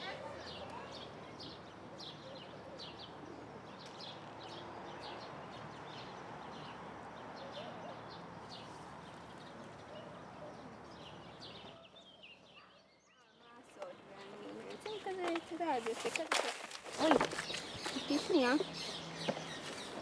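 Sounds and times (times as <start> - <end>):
faint outdoor background noise: 0.0 - 20.0
small birds chirping: 0.0 - 20.0.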